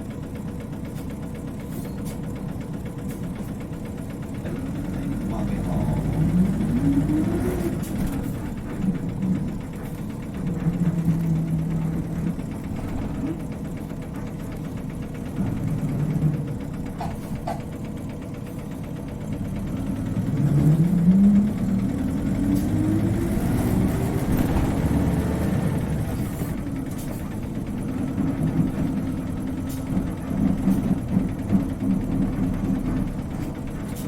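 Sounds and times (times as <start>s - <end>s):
bus engine rumbling and accelerating: 0.0s - 34.0s.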